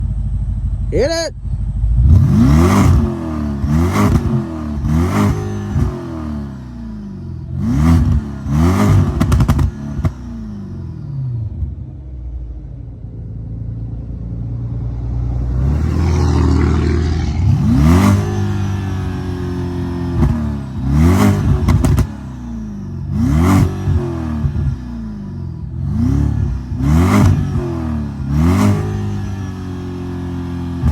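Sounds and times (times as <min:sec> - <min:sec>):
car exhaust revving: 0:00.0 - 0:30.9.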